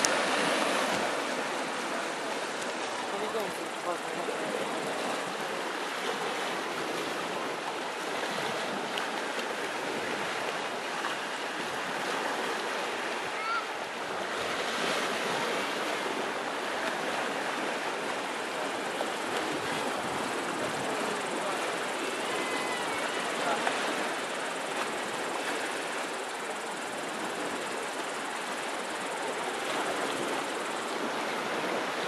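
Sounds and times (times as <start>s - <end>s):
gentle sea waves washing: 0.0s - 32.0s.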